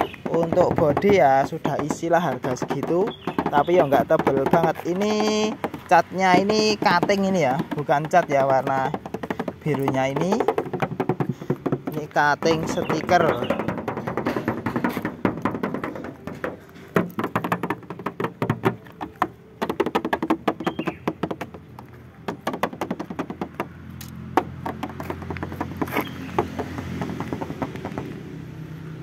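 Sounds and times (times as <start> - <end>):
hand knocking on sheet metal: 0.0 - 23.8, 24.4 - 28.2.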